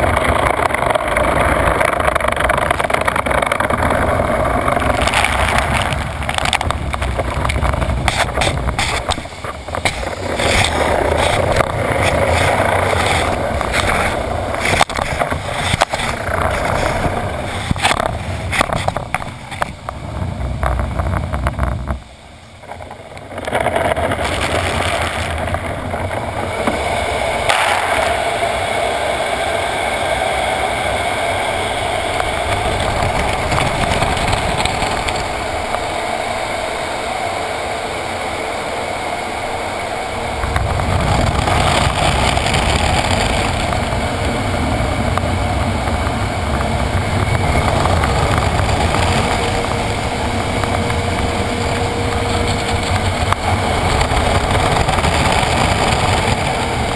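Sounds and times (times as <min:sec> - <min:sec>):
deep rumble: 0:00.0 - 0:56.9.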